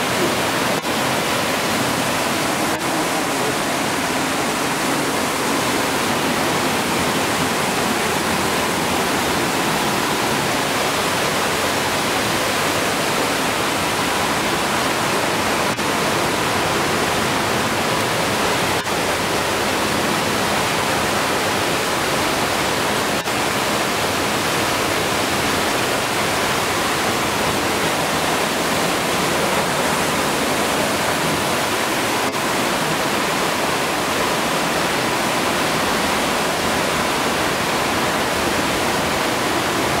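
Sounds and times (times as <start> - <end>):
waterfall rushing into pool: 0.0 - 40.0.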